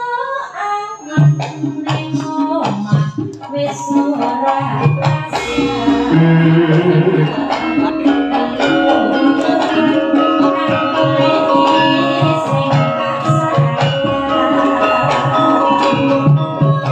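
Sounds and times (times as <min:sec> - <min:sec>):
woman singing into microphone: 0:00.0 - 0:16.9
band with gamelan and hand drums: 0:00.8 - 0:16.9.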